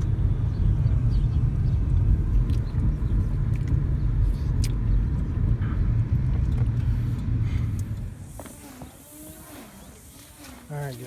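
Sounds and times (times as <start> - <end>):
road rumble inside car: 0.0 - 10.1.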